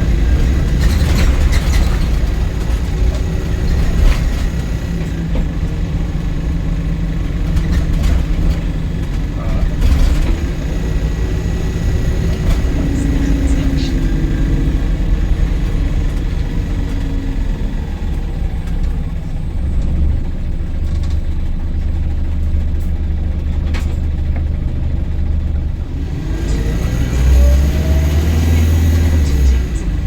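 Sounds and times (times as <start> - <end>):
rising engine whine: 0.0 - 21.5, 24.4 - 30.0
bus engine rumble: 0.0 - 30.0.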